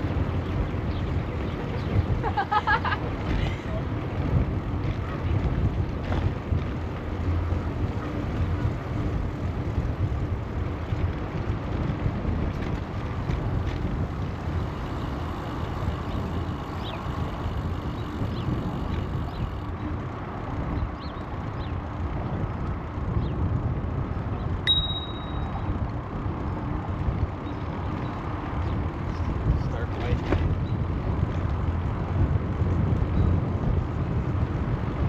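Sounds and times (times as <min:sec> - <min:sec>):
bicycle tyre noise on trail: 0:00.0 - 0:35.0
wind rumble on microphone: 0:00.0 - 0:35.0.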